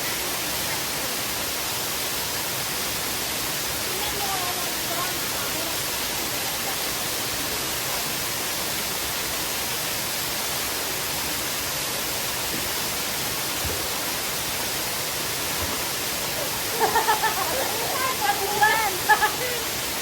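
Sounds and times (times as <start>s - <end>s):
waterfall and stream rushing: 0.0s - 20.0s.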